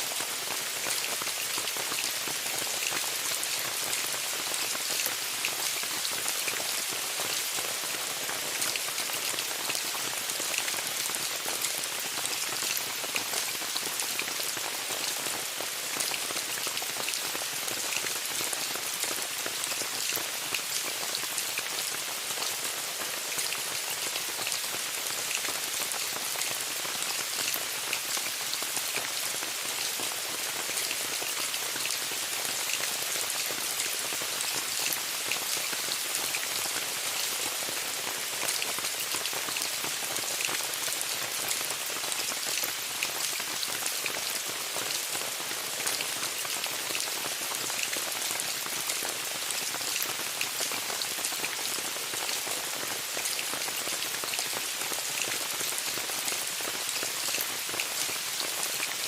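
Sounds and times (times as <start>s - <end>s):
rain falling on a tent: 0.0s - 59.0s.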